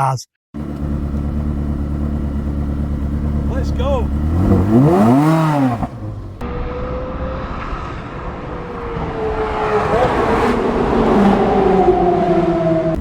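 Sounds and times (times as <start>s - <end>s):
sports car engine revving: 0.6s - 13.0s.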